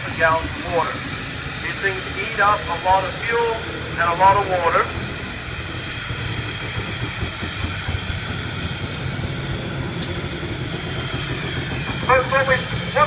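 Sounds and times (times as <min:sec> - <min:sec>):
low rumble: 0:00.0 - 0:13.0
steam hissing: 0:00.0 - 0:13.0.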